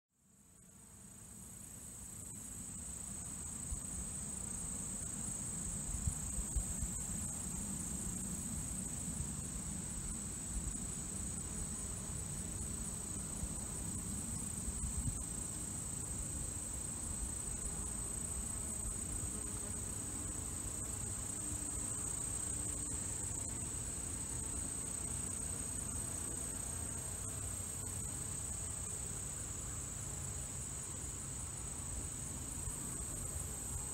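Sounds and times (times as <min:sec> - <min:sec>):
insects trilling: 0:01.0 - 0:33.9.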